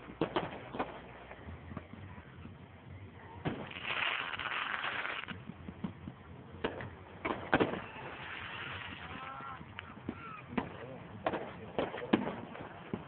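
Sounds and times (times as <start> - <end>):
firework bangs: 0.0 - 2.6, 3.3 - 13.0
firework hissing crackle: 0.0 - 13.0.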